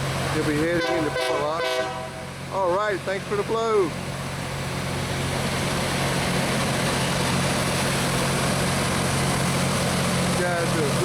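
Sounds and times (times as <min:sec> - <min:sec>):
diesel engine drone: 0:00.0 - 0:11.0
rail grinding hiss: 0:00.0 - 0:11.0.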